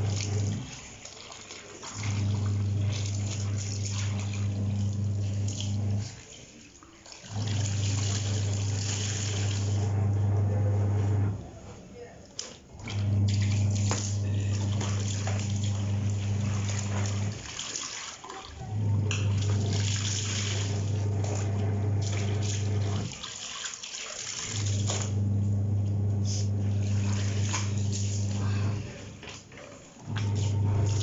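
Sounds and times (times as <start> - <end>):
hose pouring water: 0.0 - 10.1, 12.4 - 31.0
clothes splashing in a basin: 0.0 - 11.2, 12.2 - 31.0
washing machine motor humming: 0.0 - 31.0.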